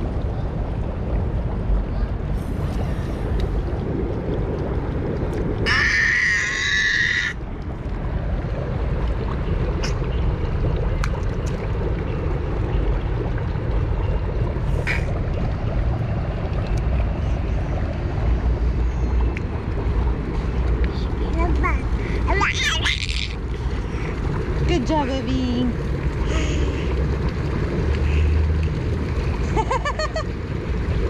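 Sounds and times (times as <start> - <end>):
water jets splashing on pavement: 0.0 - 31.0.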